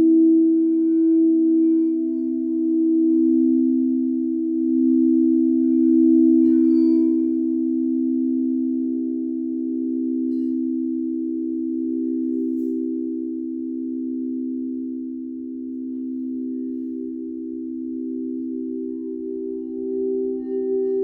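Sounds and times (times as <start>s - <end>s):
singing bowls ringing: 0.4s - 8.1s, 11.8s - 21.0s.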